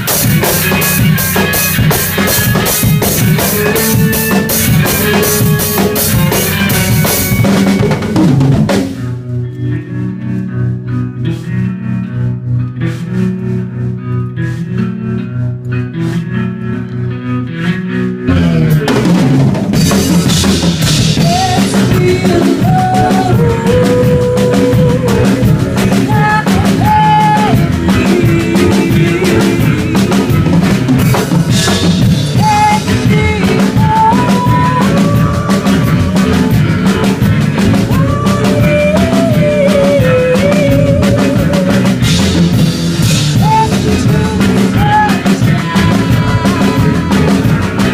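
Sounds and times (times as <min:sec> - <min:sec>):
drum kit beat: 0:00.0 - 0:47.9
live rock band playing: 0:00.0 - 0:47.9.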